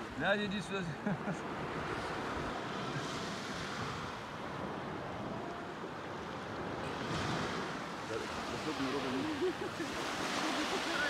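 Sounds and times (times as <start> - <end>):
waves washing onto beach: 0.0 - 11.0
wind: 0.0 - 11.0.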